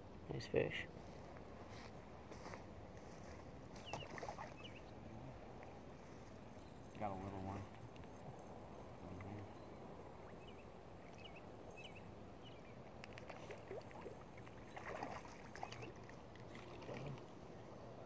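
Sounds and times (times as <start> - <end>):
low hiss of air and water: 0.0 - 18.0.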